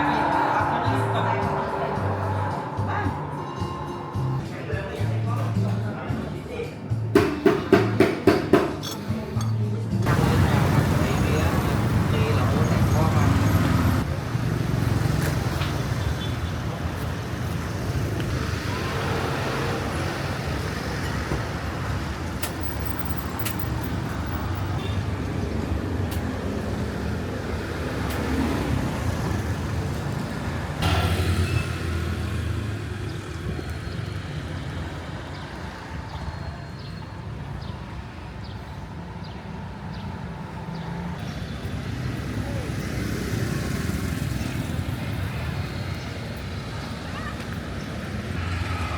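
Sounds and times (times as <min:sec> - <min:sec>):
city street traffic: 0:00.0 - 0:48.9.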